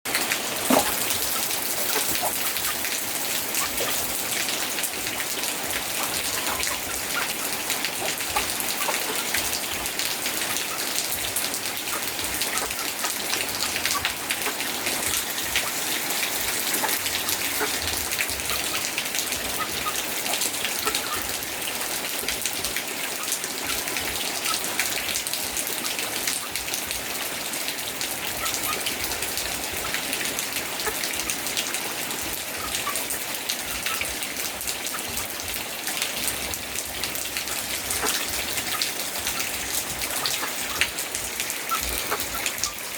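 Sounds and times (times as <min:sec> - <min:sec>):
steady rain: 0:00.1 - 0:42.9
chickens clucking: 0:00.7 - 0:26.9, 0:28.1 - 0:42.9.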